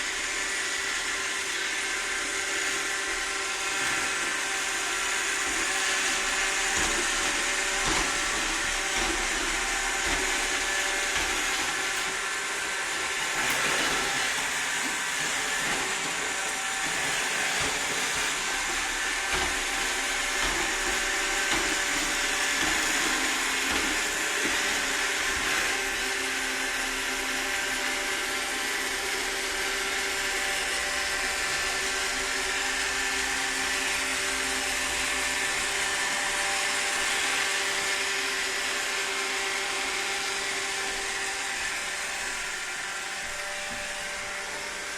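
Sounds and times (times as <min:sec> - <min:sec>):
robot vacuum running: 0:00.0 - 0:44.9.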